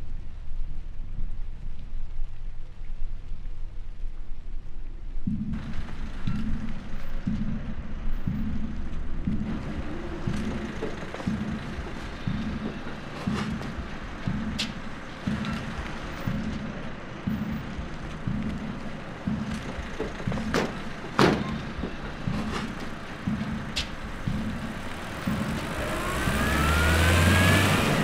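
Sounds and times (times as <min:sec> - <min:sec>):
low pulsing note: 0:05.3 - 0:28.0.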